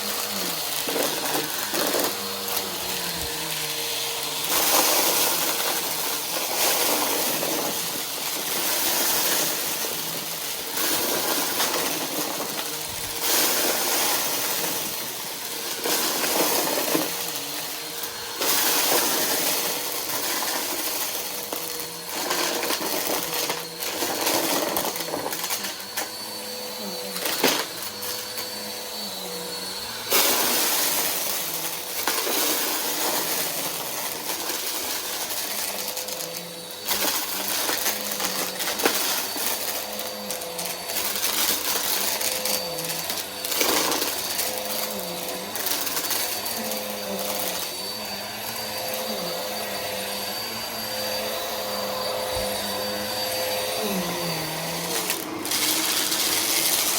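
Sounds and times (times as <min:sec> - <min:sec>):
vacuum cleaner motor whine: 0:00.0 - 0:56.9
vacuum sucking up confetti: 0:00.0 - 0:56.9.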